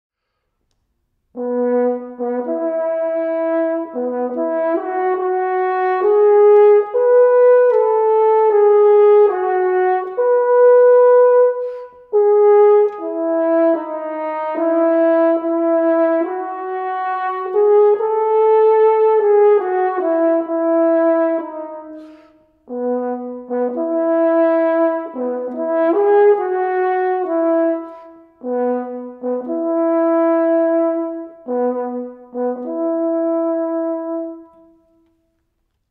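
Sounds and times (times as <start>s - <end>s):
french horn melody: 0.2s - 35.8s.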